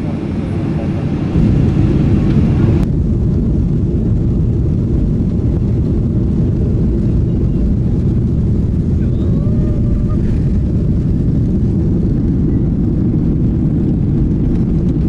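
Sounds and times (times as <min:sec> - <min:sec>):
jet engines deep rumble: 0:00.0 - 0:15.0.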